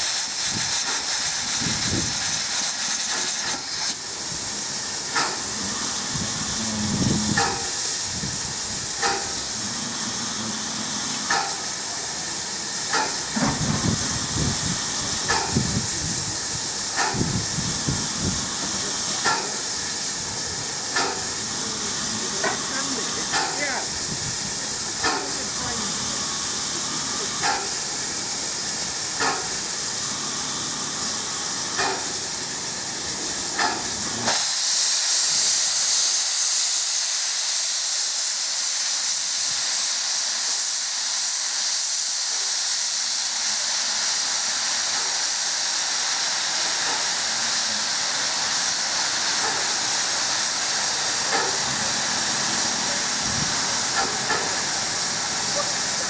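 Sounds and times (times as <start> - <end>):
train passing at speed: 0.0 - 36.7, 43.6 - 56.0.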